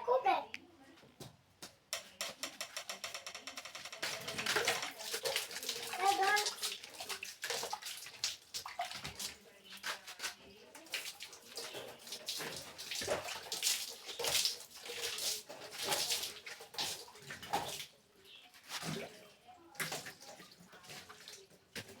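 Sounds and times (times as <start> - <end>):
water splashing and sloshing: 3.4 - 22.0.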